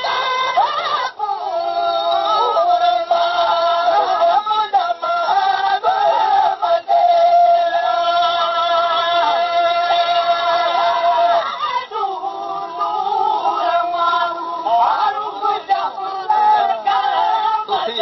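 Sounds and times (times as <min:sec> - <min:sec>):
person singing devotional melody: 0:00.0 - 0:18.0.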